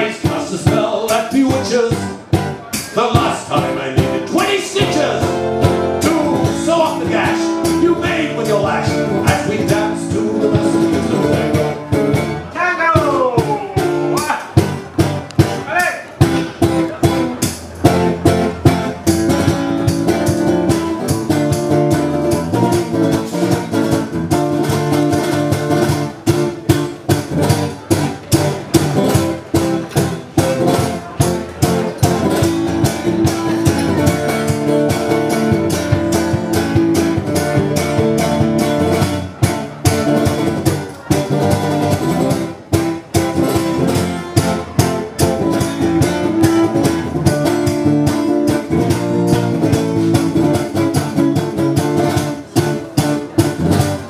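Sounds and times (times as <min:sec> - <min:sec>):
guitar playing tango: 0:00.0 - 0:54.0.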